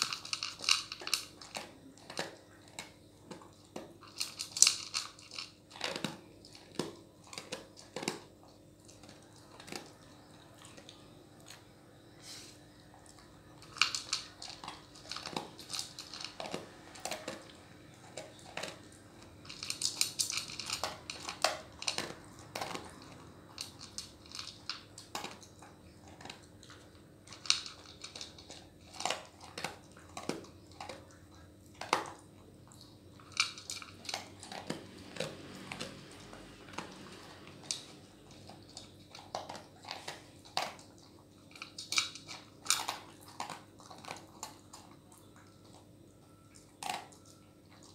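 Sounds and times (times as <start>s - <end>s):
kibble rattling against bowl: 0.0s - 10.8s, 13.5s - 32.2s, 32.8s - 45.8s
dog crunching kibble: 0.0s - 11.6s, 12.9s - 47.9s.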